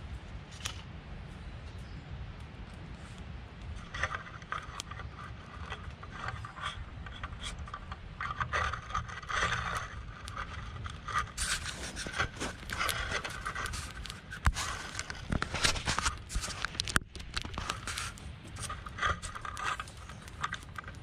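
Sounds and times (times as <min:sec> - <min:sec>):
wood scraping and rubbing: 0:03.7 - 0:21.0.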